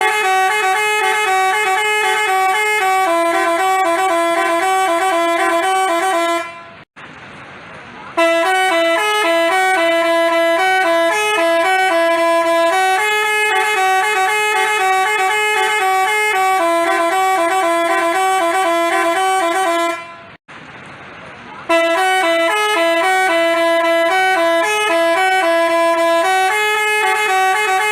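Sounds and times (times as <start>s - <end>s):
bus horn playing a tune: 0.0s - 6.9s, 8.1s - 20.4s, 21.6s - 27.9s.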